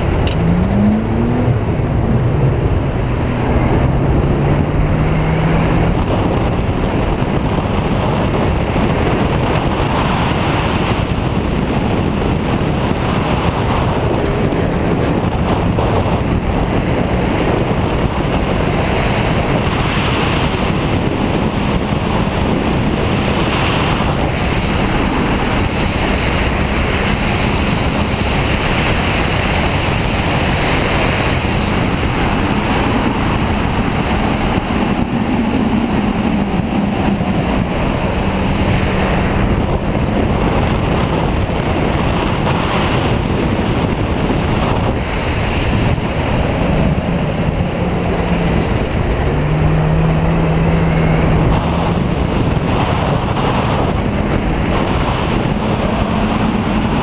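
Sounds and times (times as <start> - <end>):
car engine: 0.0 - 57.0
studded tyres rumbling on ice: 0.0 - 57.0
wind rush on microphone: 0.0 - 57.0.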